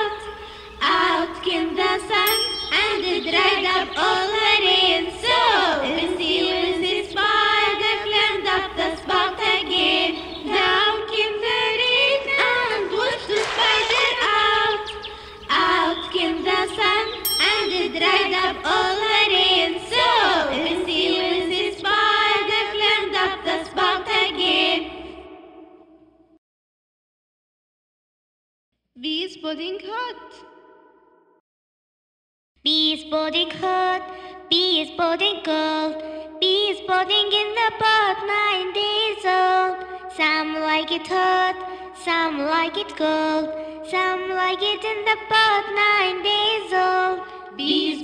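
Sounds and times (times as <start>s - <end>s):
children's song with backing music: 0.0s - 24.9s, 32.7s - 48.0s.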